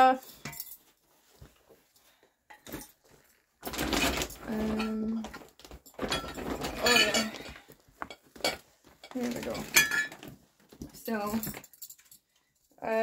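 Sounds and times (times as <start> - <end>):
rustling and knocking of items: 0.0 - 13.0.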